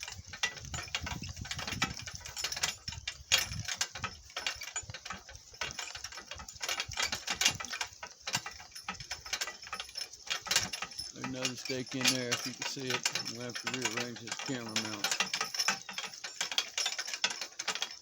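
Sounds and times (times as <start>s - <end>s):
cart rattling over rough ground: 0.0s - 18.0s.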